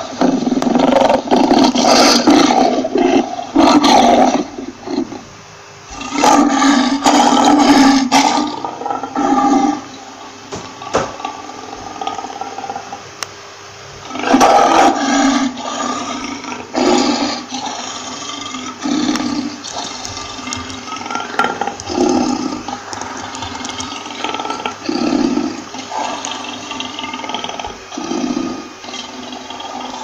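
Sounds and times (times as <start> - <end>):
lion roaring: 0.0 - 5.2, 5.9 - 9.9, 10.7 - 13.0, 14.0 - 30.0.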